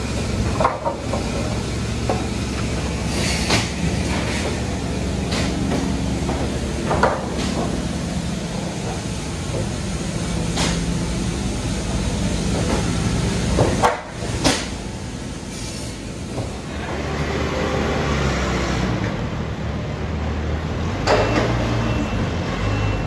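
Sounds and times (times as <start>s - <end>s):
mill machinery drone: 0.0s - 23.0s.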